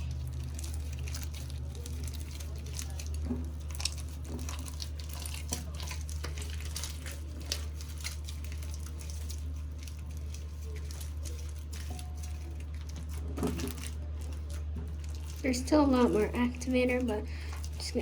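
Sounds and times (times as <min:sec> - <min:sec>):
slime squishing: 0:00.0 - 0:18.0
steady low hum: 0:00.0 - 0:18.0.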